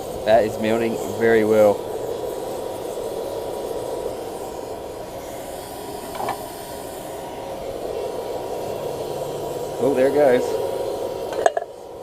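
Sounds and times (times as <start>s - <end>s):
furnace forced air hiss: 0.0s - 12.0s.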